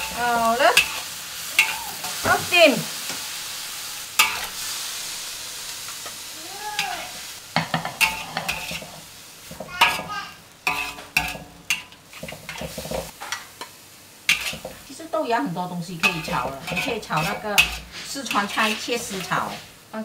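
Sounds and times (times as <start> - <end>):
metal spatula scraping a wok: 0.0 - 5.4, 6.8 - 14.9, 15.9 - 19.9
food sizzling in a wok: 0.0 - 20.0.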